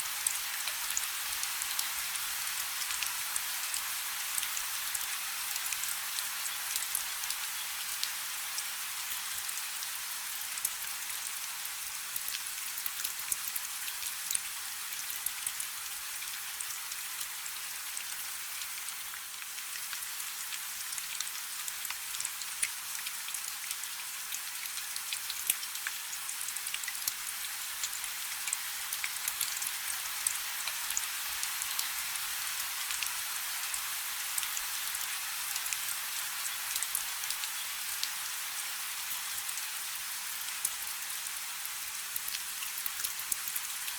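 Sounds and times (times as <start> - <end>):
rain falling on a river: 0.0 - 43.9.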